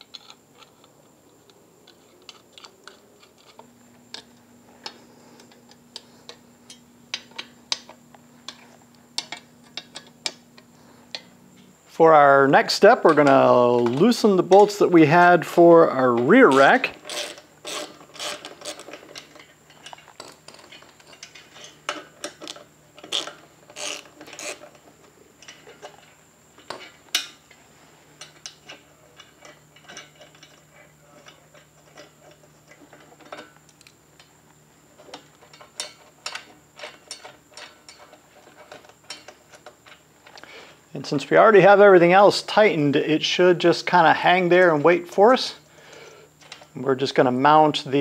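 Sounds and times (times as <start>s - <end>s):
metal bolts clicking and rubbing: 0.0s - 48.0s.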